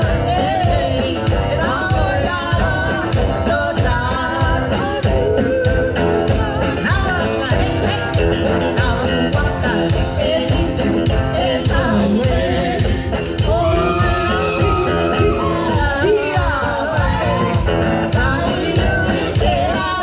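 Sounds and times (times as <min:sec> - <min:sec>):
band with steady beat: 0:00.0 - 0:20.0
voices singing: 0:00.0 - 0:20.0.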